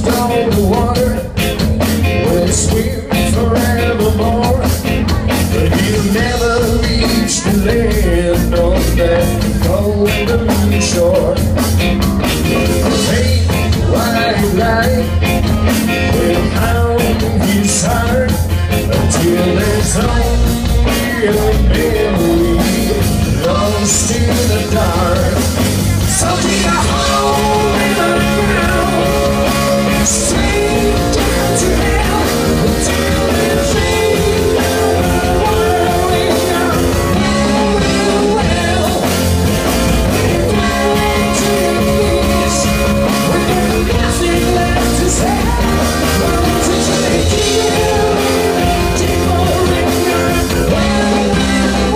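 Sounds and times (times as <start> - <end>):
live rock band playing: 0.0 - 51.9
person singing: 0.0 - 51.9.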